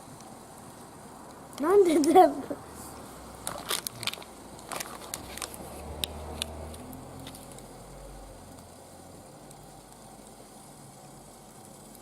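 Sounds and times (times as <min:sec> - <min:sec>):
wood fire sizzling and crackling: 0:00.0 - 0:12.0.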